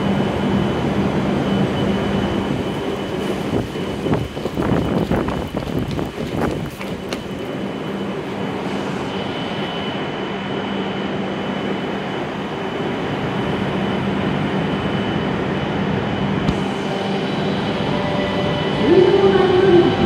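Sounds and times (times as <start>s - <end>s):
train rumbling to a stop: 0.0s - 20.0s.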